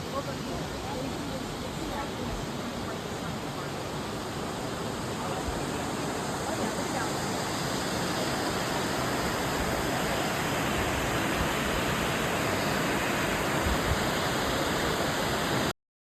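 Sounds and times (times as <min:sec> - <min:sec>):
rushing waterfall: 0:00.0 - 0:15.7.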